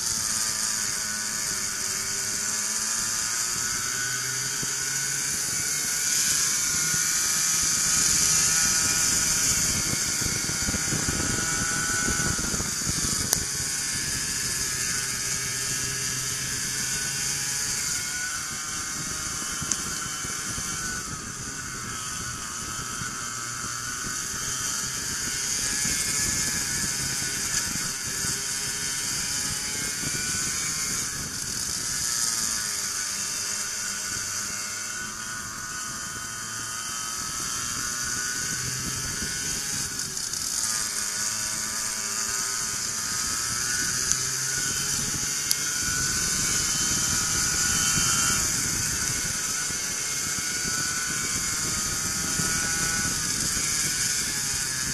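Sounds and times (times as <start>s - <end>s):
go-kart engines revving: 0.0s - 54.9s
wind hiss on microphone: 0.0s - 54.9s.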